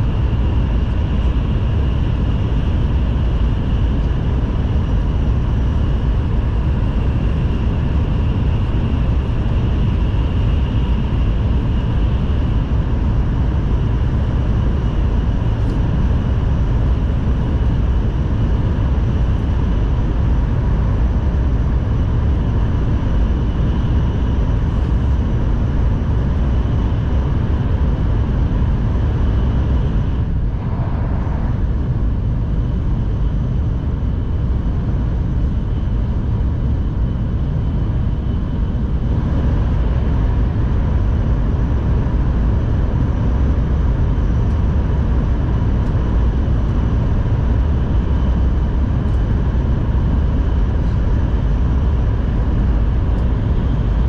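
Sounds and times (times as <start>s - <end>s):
faint steady whine: 0.0s - 54.0s.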